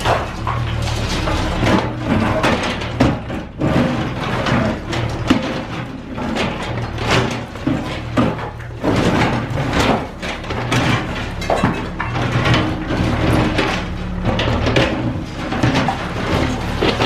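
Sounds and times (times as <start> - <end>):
concrete and metal crunching: 0.0 - 17.0
excavator diesel engine running: 0.0 - 17.0.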